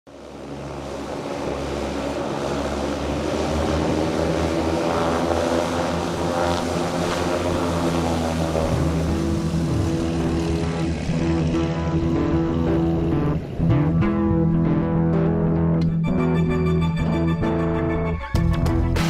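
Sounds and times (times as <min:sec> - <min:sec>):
aircraft engines running: 0:00.1 - 0:19.0.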